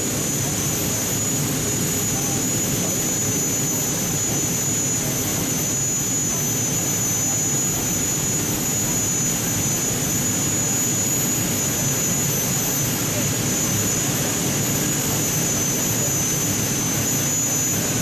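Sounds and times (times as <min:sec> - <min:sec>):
jet turbine whine: 0:00.0 - 0:18.0.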